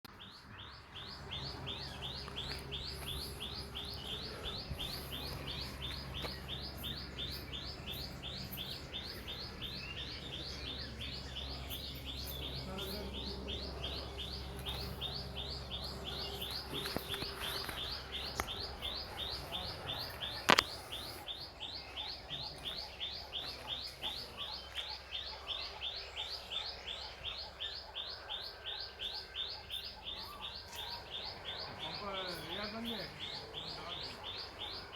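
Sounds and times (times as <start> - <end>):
bird chirping high: 0.1 - 34.9
steady low hum: 0.2 - 34.9.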